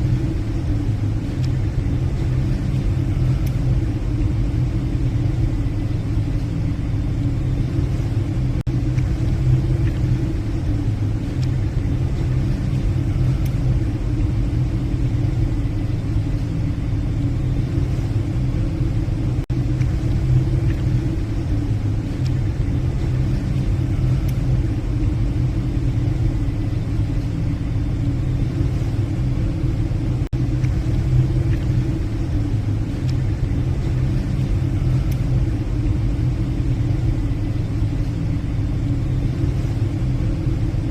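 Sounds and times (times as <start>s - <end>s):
ship engines droning: 0.0s - 40.9s.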